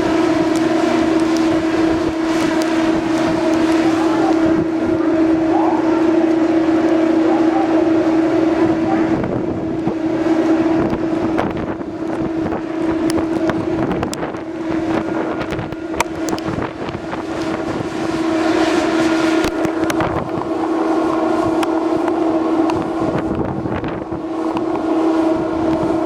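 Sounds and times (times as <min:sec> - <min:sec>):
ferry engine hum: 0:00.0 - 0:26.0
wind on microphone: 0:00.0 - 0:26.0.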